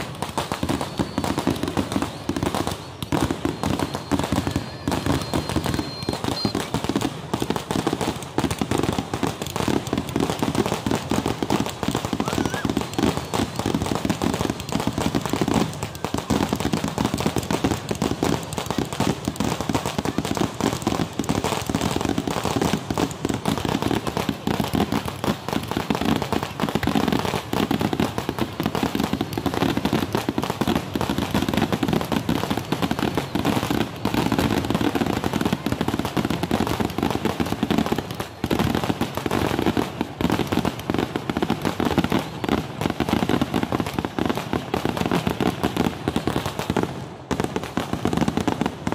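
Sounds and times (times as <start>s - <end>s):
firecracker bangs: 0.0s - 48.9s
fireworks crackling: 0.0s - 48.9s.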